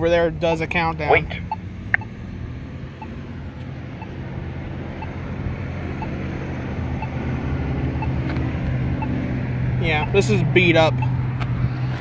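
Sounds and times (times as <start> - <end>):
vehicle engine rumble: 0.0 - 12.0
crosswalk button ticking: 0.4 - 2.2, 3.0 - 9.2, 9.8 - 11.6.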